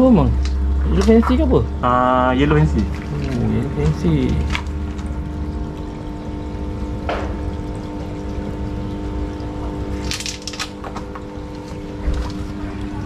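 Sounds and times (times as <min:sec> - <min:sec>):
pump hum: 0:00.0 - 0:13.0
water splashing and pouring: 0:00.0 - 0:13.0.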